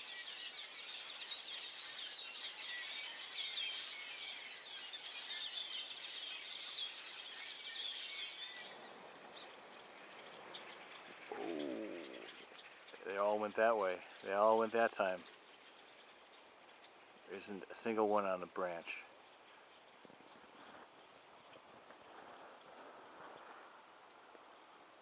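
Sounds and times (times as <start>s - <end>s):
flock of birds chirping: 0.0s - 24.8s.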